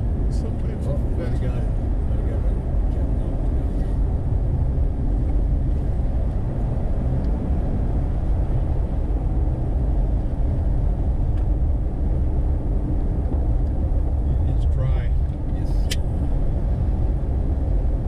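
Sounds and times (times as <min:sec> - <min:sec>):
vehicle driving on paved road: 0:00.0 - 0:18.0.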